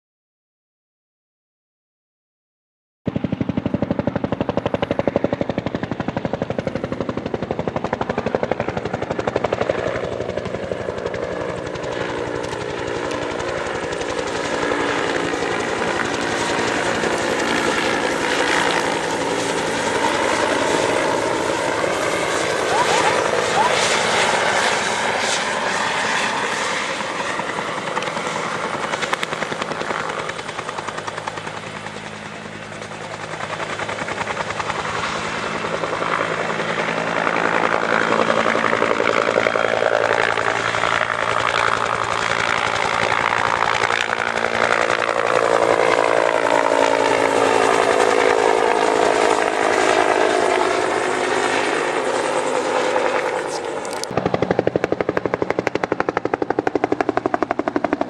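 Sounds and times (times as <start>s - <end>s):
helicopter rotor chopping: 3.1s - 58.0s.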